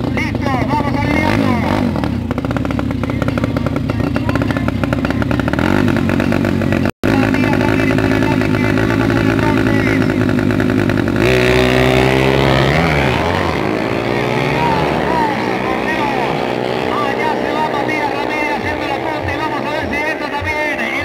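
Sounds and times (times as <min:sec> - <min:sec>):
motorcycle accelerating away: 0:00.0 - 0:20.5
motorcycle engine revving: 0:00.0 - 0:21.0.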